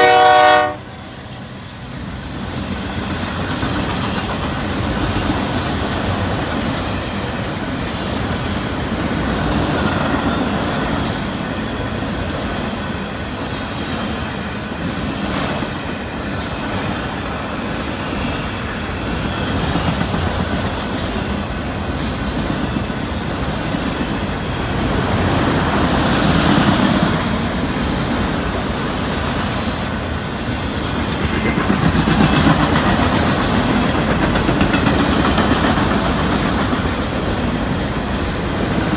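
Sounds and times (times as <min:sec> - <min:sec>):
freight train rumble: 0:00.0 - 0:38.9
train wheels clacking over rail joints: 0:00.0 - 0:38.9.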